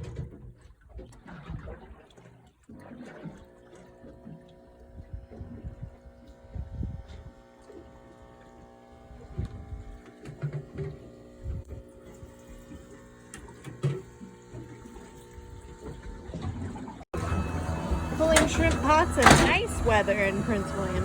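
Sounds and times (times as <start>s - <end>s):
water splashing and sloshing: 0.0s - 21.0s
boat motor humming: 2.7s - 21.0s.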